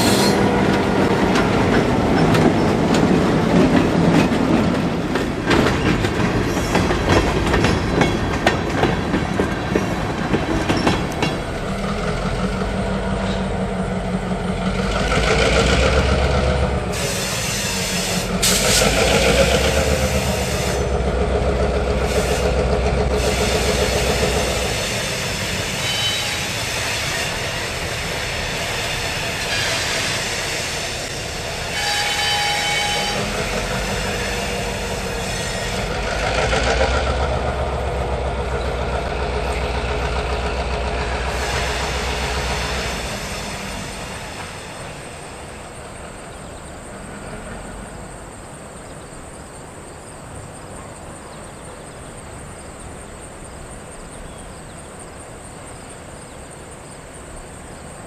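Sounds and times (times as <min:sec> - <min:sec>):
diesel locomotive engine running: 0:00.0 - 0:48.7.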